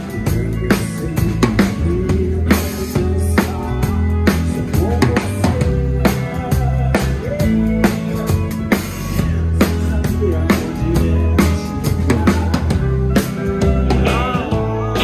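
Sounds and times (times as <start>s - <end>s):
drum kit groove: 0.0s - 15.0s
music with bass line: 0.0s - 15.0s.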